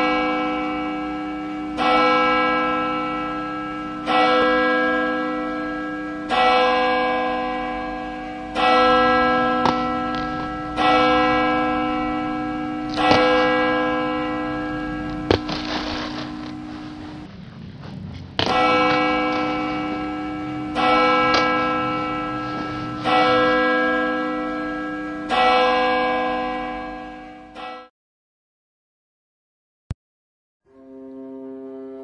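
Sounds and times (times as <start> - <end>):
bell tolling: 0.0 - 17.4, 18.3 - 27.9.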